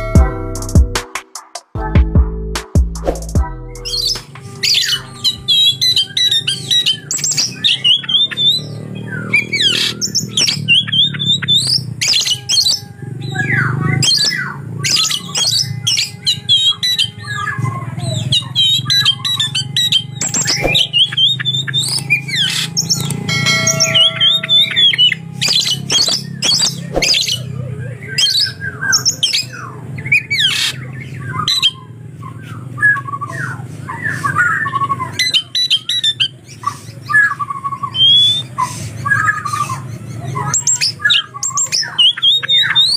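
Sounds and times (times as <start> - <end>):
bird singing whistles and chirps: 3.8 - 42.9
mimicked lovebird calls: 3.8 - 42.9.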